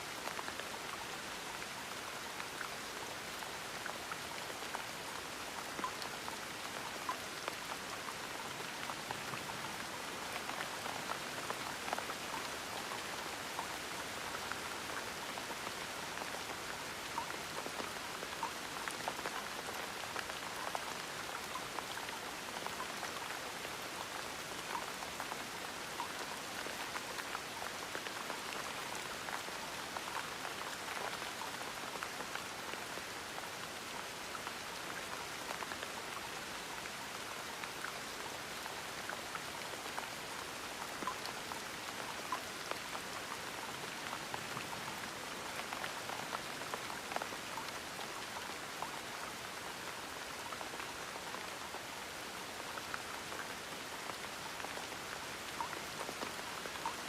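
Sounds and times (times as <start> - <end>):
gentle rain falling: 0.0 - 57.0
raindrops ticking on a surface: 0.1 - 57.0.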